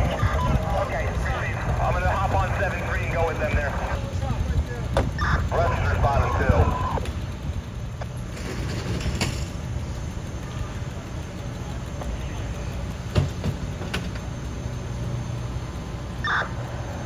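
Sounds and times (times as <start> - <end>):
diesel engine rumbling: 0.0 - 17.0
sharp clicks: 0.4 - 15.4.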